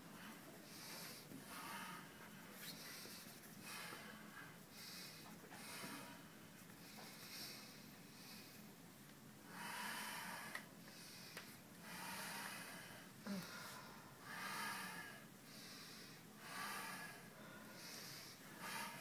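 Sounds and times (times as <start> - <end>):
person breathing softly: 0.0 - 8.7, 9.5 - 19.0.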